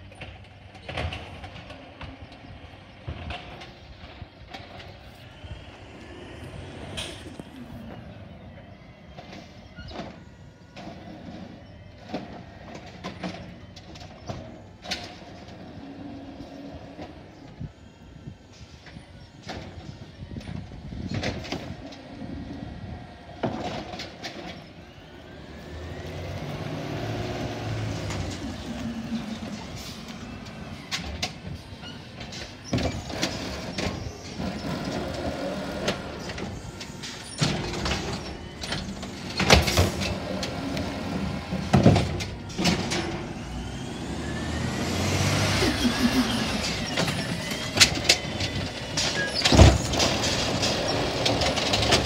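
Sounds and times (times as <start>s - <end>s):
garbage truck engine running: 0.0s - 52.0s
hydraulic arm whining: 0.8s - 52.0s.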